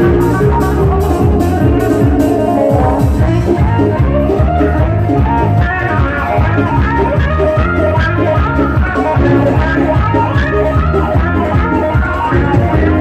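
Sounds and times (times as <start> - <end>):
bass and drum beat: 0.0 - 13.0
electric lute melody: 0.0 - 13.0.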